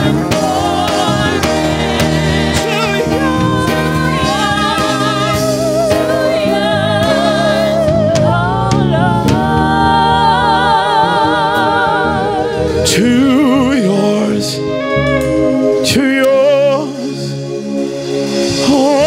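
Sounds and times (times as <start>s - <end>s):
person singing with vibrato: 0.0s - 17.4s, 18.5s - 19.0s
sustained instrumental accompaniment: 0.0s - 19.0s.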